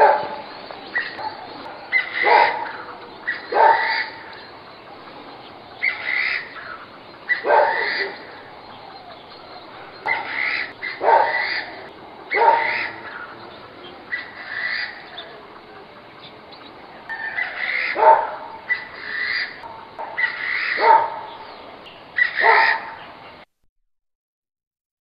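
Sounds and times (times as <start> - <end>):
loud harsh bird calls: 0.0 - 23.4.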